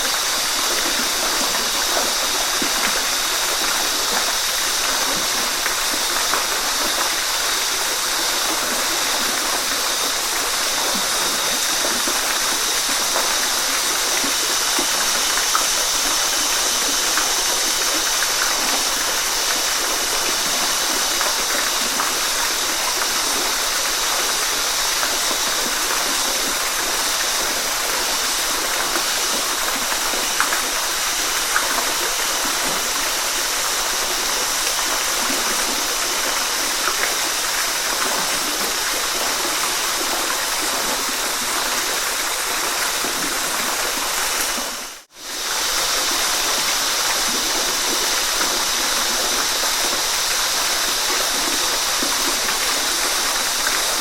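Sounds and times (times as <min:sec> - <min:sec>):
water splashing and gurgling: 0:00.0 - 0:54.0
waterfall rushing: 0:00.0 - 0:54.0.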